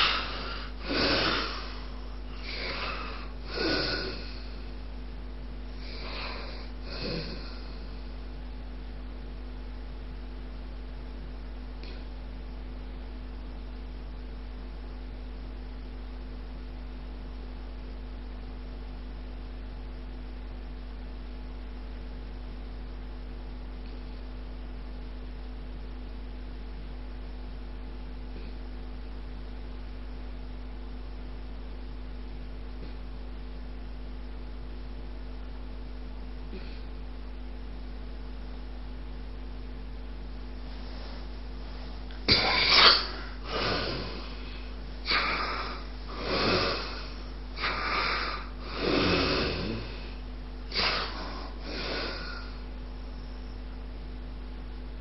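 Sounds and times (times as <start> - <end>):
constant hiss: 0.0 - 55.0
electrical mains hum: 0.0 - 55.0.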